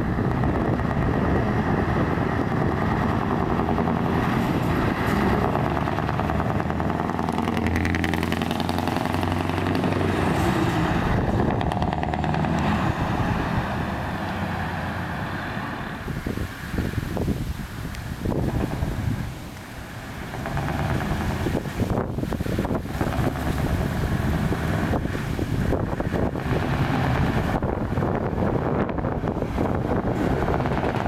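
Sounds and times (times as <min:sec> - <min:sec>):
truck driving past: 0:00.0 - 0:31.0.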